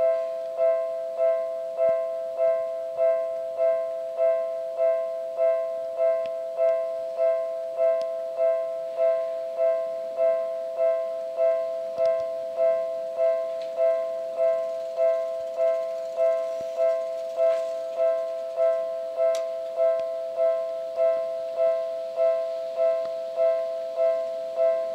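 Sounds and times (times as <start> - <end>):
level crossing alarm two-tone ding: 0.0 - 24.9.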